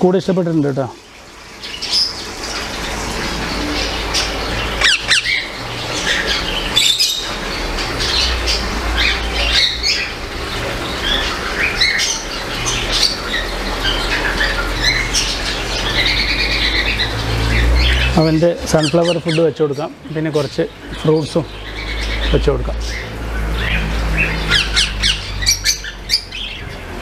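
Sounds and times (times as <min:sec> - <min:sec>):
parakeet squawking: 0:01.6 - 0:26.9.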